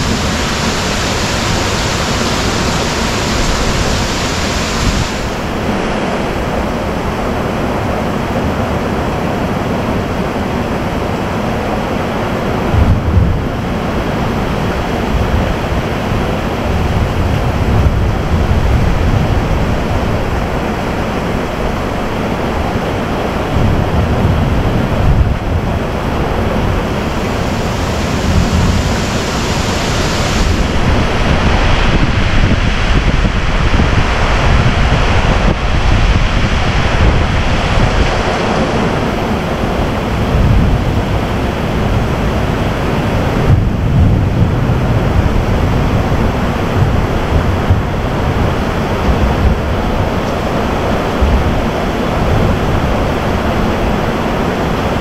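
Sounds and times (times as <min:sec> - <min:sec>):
heavy rain pouring: 0:00.0 - 0:55.0
wind buffeting microphone: 0:00.0 - 0:55.0.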